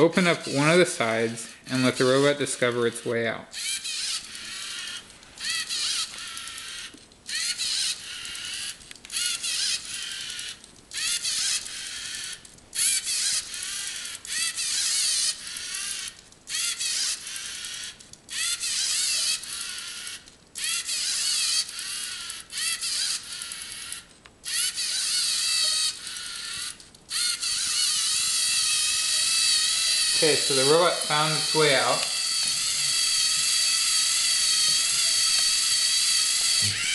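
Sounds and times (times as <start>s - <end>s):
servo motors whining: 0.3s - 36.9s.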